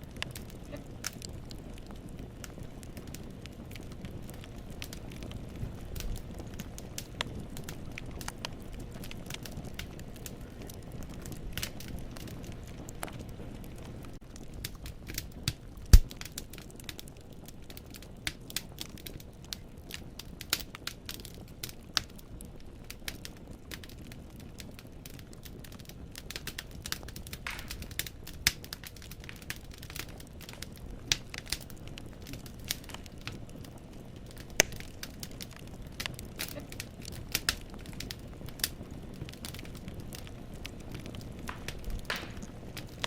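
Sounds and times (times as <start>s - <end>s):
burning logs popping: 0.0s - 43.0s
flames rumbling: 0.0s - 43.0s
wood fire crackling: 0.0s - 43.0s.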